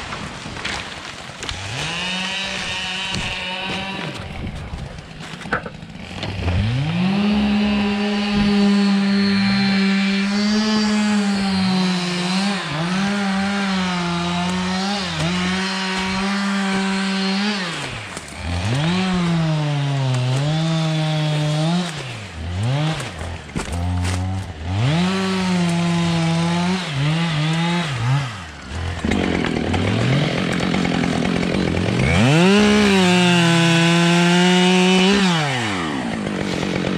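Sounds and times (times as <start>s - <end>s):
chainsaw cutting wood: 0.0s - 36.9s.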